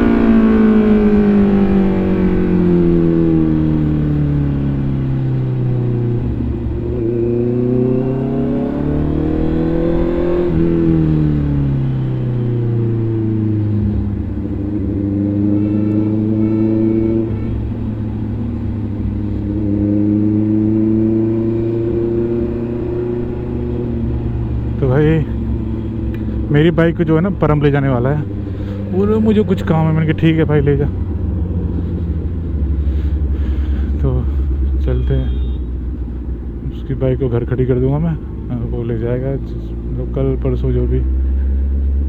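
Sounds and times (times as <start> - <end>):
motorcycle engine: 0.0 - 42.0.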